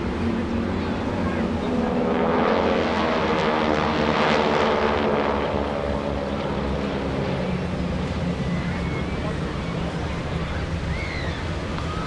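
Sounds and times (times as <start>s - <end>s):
propeller planes droning past: 0.0s - 12.0s.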